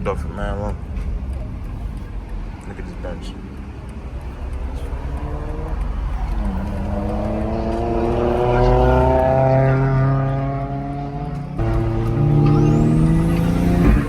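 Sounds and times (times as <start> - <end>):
car engine accelerating: 0.4 - 14.0.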